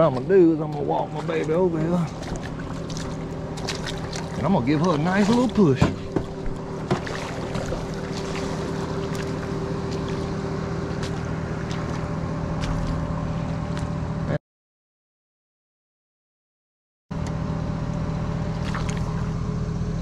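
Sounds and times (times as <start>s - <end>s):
engine idling hum: 0.0s - 14.4s, 17.1s - 20.0s.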